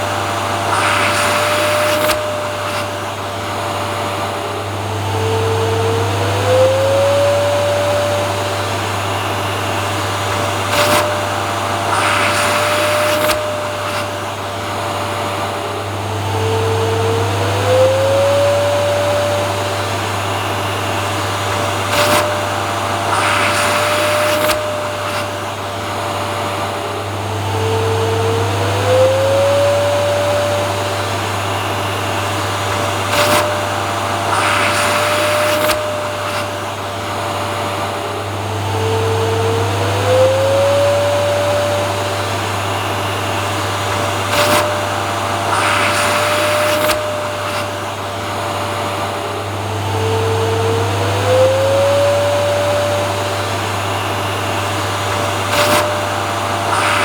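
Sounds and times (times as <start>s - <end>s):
vacuum cleaner click: 0.0s - 57.0s
vacuum cleaner running: 0.0s - 57.0s.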